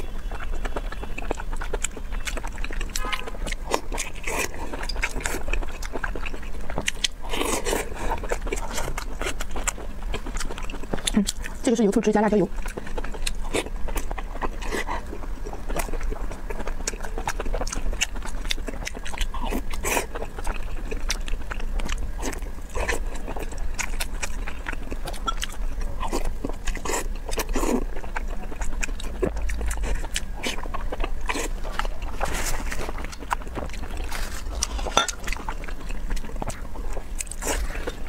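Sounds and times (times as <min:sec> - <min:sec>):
biting and chewing: 0:00.0 - 0:38.0
faint low hum: 0:00.0 - 0:38.0.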